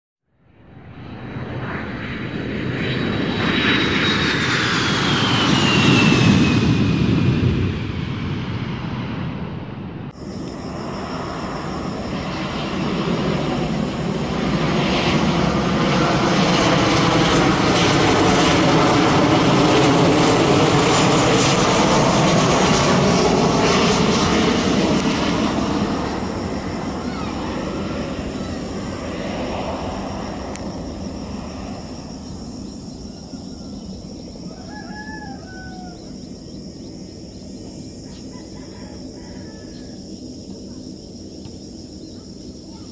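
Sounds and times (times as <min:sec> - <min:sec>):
jet airliner passing overhead: 0:00.4 - 0:42.9.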